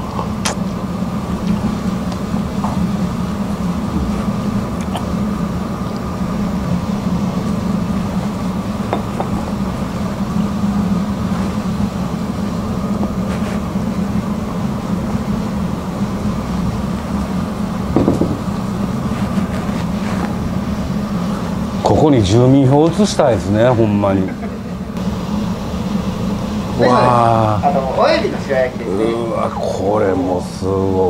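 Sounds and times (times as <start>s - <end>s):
ventilation machine hum: 0.0s - 31.0s.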